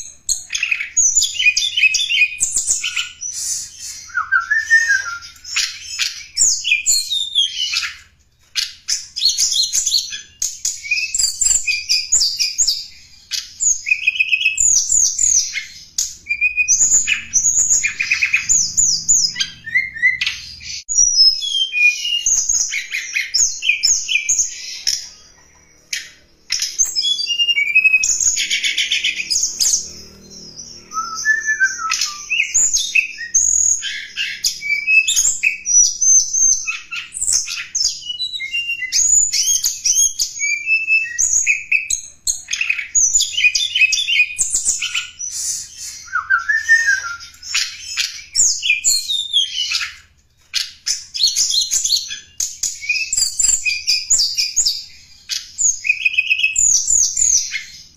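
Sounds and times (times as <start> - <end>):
songbird singing: 0.0 - 57.9.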